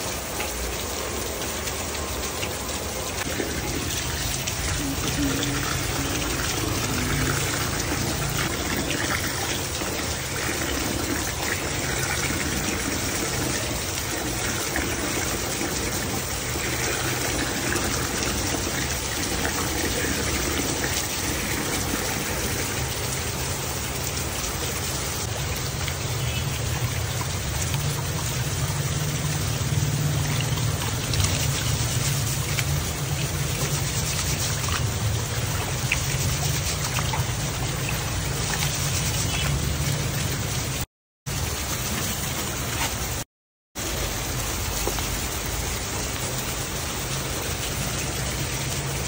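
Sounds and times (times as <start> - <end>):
steady rain falling: 0.0 - 43.2, 43.8 - 49.0.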